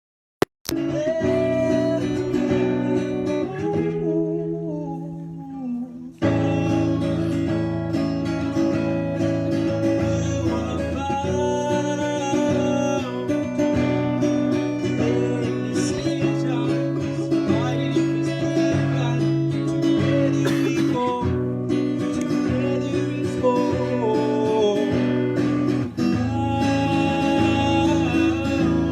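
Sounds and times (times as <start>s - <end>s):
person singing: 0.7s - 28.9s
strummed acoustic guitar: 0.7s - 28.9s.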